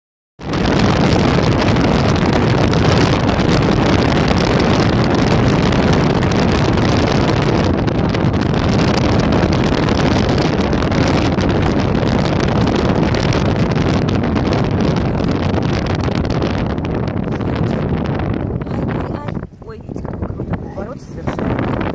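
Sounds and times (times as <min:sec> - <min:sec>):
wind buffeting microphone: 0:00.4 - 0:21.9.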